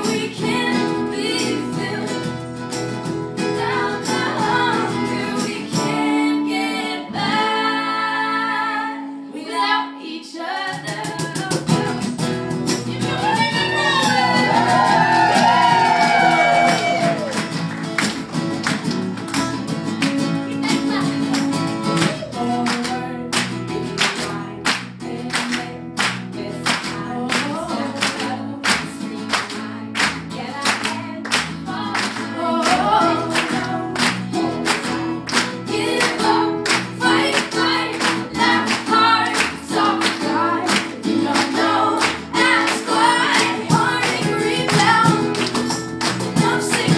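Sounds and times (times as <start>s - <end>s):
women singing: 0.0s - 2.4s, 3.4s - 17.2s, 22.0s - 46.9s
strummed acoustic guitars: 0.0s - 9.6s, 10.5s - 46.9s.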